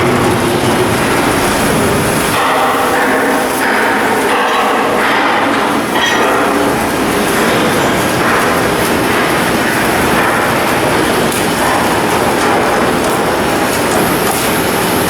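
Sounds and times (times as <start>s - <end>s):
industrial machinery noise: 0.0s - 15.0s.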